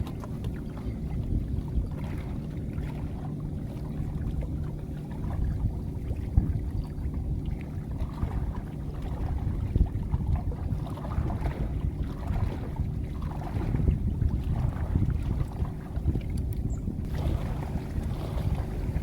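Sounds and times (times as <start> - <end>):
boat motor rumbling: 0.0 - 19.0.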